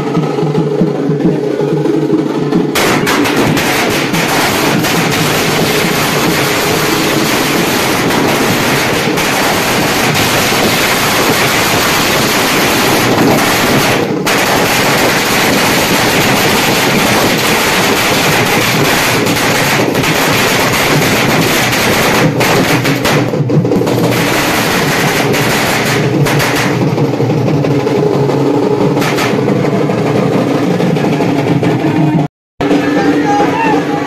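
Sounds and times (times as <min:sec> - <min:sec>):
fireworks hissing and crackling: 0:00.6 - 0:27.9, 0:28.8 - 0:29.7.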